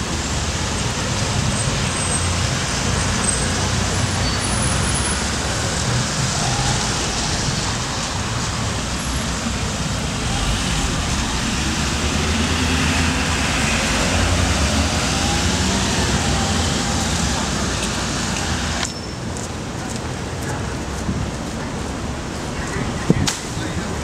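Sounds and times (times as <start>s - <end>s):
cars and truck driving past: 0.0s - 19.4s.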